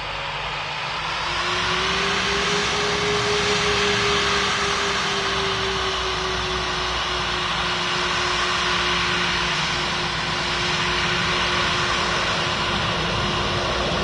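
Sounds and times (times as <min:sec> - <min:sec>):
engine rush and hum: 0:00.0 - 0:14.0.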